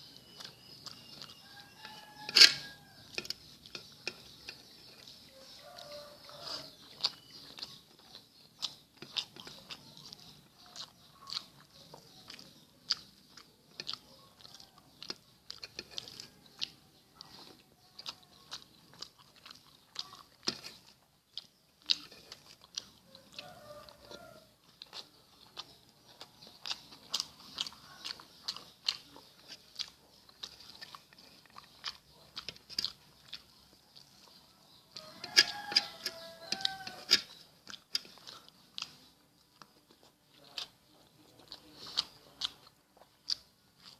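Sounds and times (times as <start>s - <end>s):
close chewing and biting: 0.0s - 43.9s.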